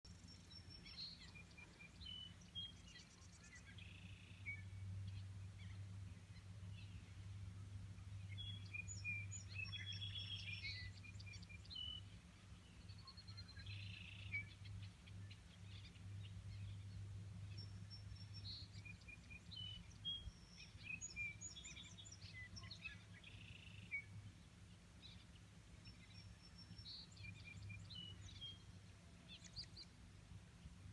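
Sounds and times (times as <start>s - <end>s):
songbirds chirping: 0.0s - 30.9s
steady low hum: 0.1s - 30.9s.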